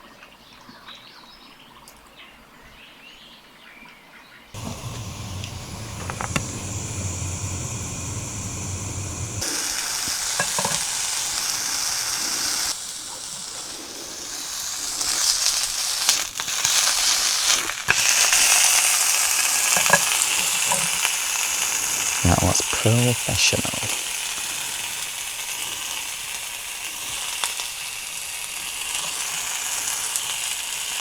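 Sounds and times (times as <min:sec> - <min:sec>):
burger sizzling in a pan: 0:04.6 - 0:31.0.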